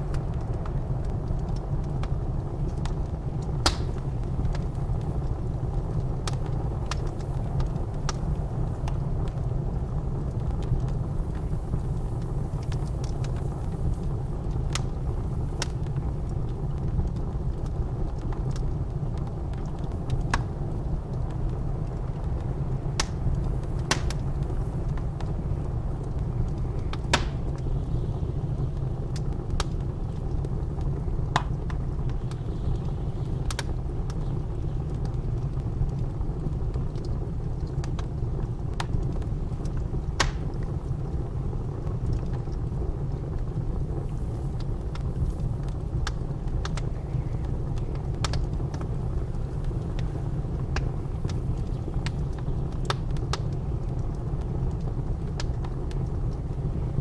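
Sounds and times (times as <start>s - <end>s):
blizzard wind rumble: 0.0s - 57.0s
wood fire crackling and popping: 0.0s - 57.0s.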